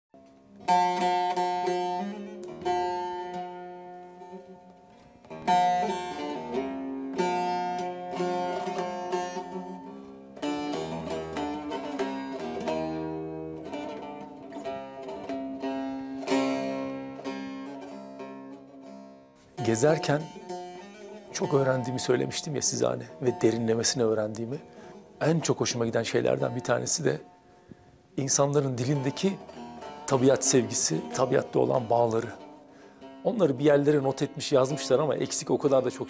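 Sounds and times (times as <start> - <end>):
plucked string instrument folk tune: 0.2 - 36.0.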